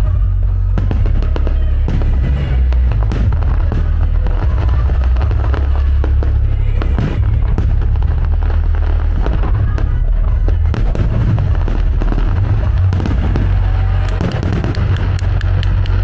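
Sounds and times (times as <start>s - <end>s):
fireworks bursting: 0.0s - 16.0s
music playing: 0.0s - 16.0s
sharp firework crackles: 0.0s - 16.0s.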